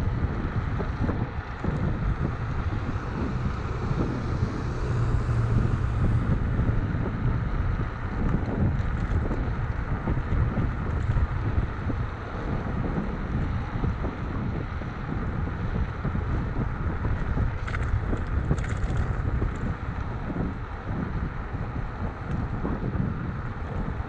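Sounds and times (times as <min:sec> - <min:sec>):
low rumbling road noise: 0:00.0 - 0:24.0
wind buffeting microphone: 0:00.0 - 0:24.0.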